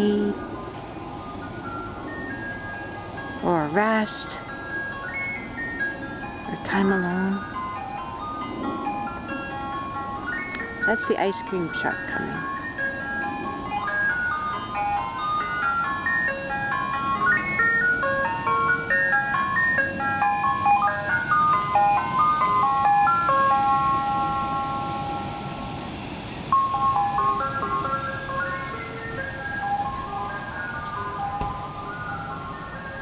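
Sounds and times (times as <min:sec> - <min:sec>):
ice cream truck chime tune: 0:00.0 - 0:33.0.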